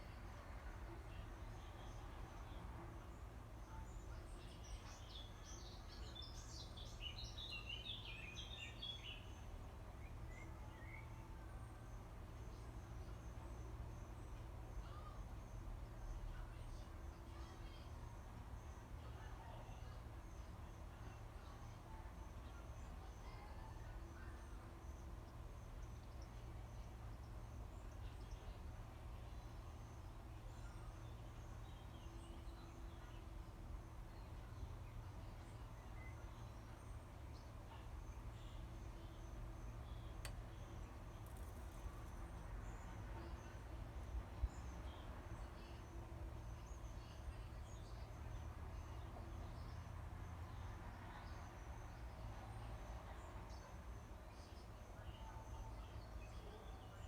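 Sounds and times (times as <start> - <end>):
faint low outdoor rumble: 0.0 - 57.0
songbirds chirping: 0.0 - 57.0.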